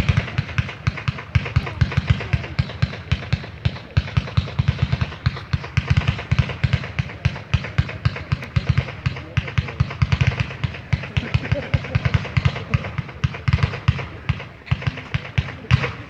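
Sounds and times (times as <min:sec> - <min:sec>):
fireworks firing shots: 0:00.0 - 0:16.0.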